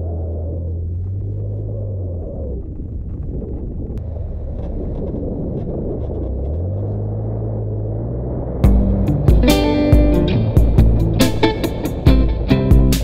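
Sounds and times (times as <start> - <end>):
engine and drivetrain rumble: 0.0 - 13.0
wind buffeting microphone: 0.0 - 13.0.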